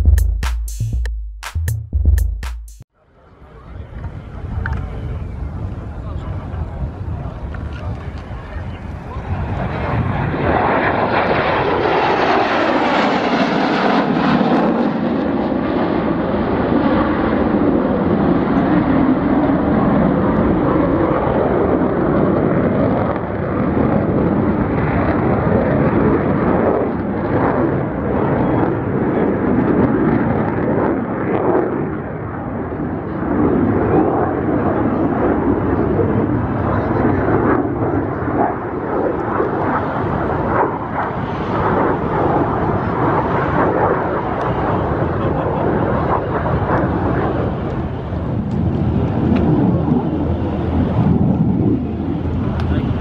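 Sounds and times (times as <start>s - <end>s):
jet fighters flying past: 3.1s - 53.0s.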